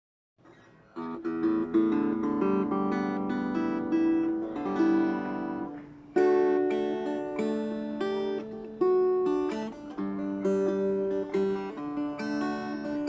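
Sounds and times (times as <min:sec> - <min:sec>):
guitar picked notes: 0:00.5 - 0:13.0
guitar chord strummed: 0:00.9 - 0:13.0.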